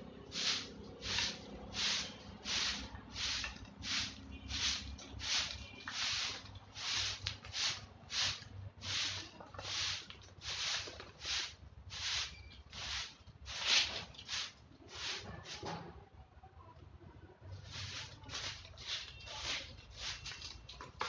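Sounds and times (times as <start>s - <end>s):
broom sweeping concrete: 0.3s - 15.8s, 17.6s - 20.7s.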